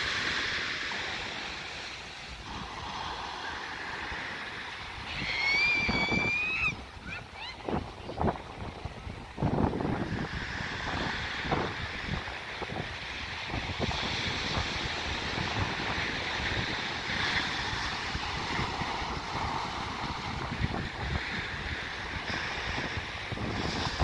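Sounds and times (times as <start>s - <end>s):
small waves breaking on sand: 0.0s - 24.0s
wind buffeting microphone: 0.0s - 24.0s.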